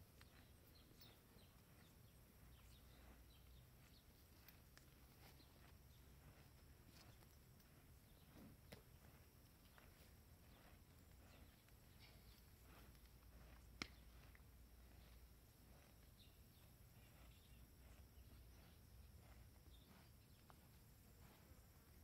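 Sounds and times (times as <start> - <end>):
faint low rumble: 0.0 - 22.0.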